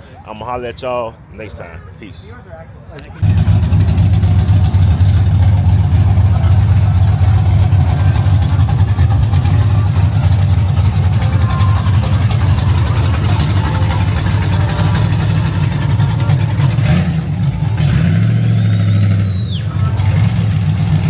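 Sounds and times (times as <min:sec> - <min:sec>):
car engine exhaust rumble: 0:03.2 - 0:21.0.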